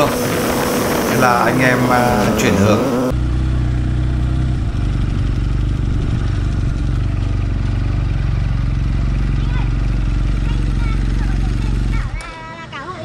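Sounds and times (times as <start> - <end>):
motorcycle engine at low revs: 0.0 - 12.2
road noise: 0.0 - 13.0.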